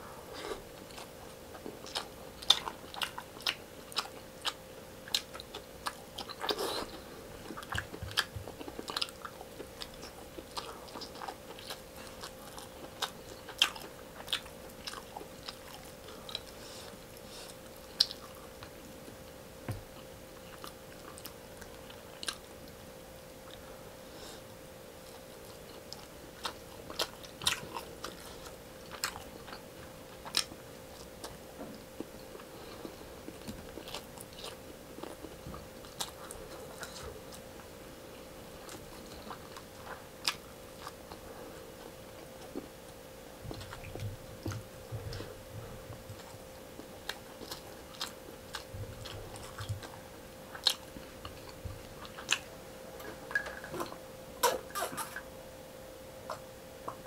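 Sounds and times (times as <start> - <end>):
faint steady hum: 0.0 - 57.0
chewing and crunching: 0.3 - 23.7, 24.4 - 55.3.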